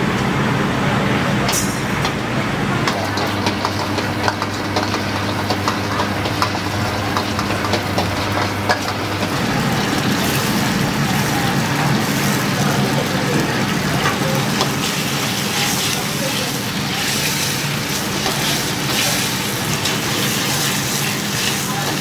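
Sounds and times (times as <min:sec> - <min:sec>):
gas burner rushing: 0:00.0 - 0:22.0
flames flaring: 0:01.7 - 0:22.0
food sizzling: 0:02.8 - 0:22.0
spatula scraping wok: 0:02.8 - 0:22.0.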